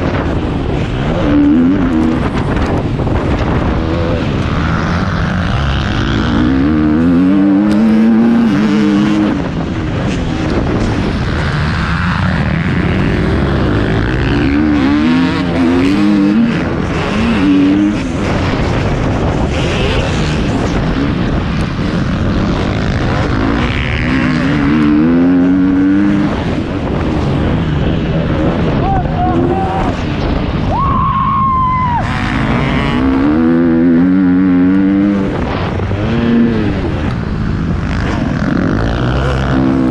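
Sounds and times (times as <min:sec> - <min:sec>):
motocross bike engine revving: 0:00.0 - 0:30.6, 0:31.9 - 0:39.9.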